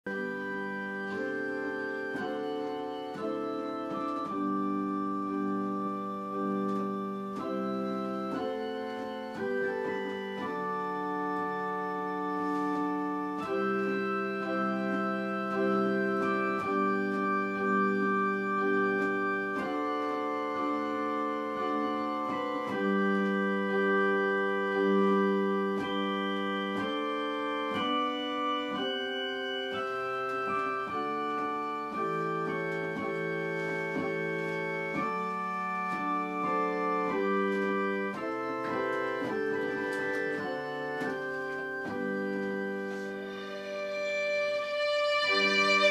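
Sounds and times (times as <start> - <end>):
slow organ-like chords: 0.1 - 45.9.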